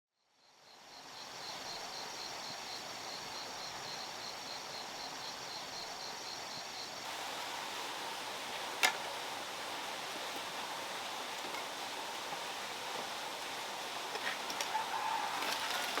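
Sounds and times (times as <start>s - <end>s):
background hiss: 0.4s - 16.0s.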